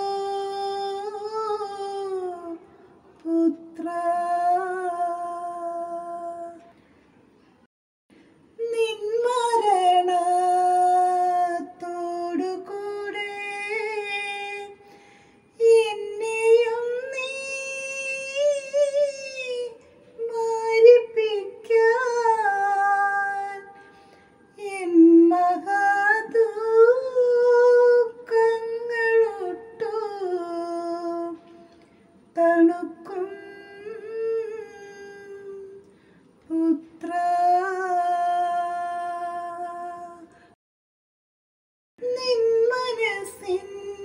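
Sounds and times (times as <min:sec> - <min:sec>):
woman singing unaccompanied: 0:00.0 - 0:06.7, 0:08.6 - 0:14.8, 0:15.5 - 0:23.9, 0:24.5 - 0:31.6, 0:32.3 - 0:40.4, 0:42.0 - 0:44.0.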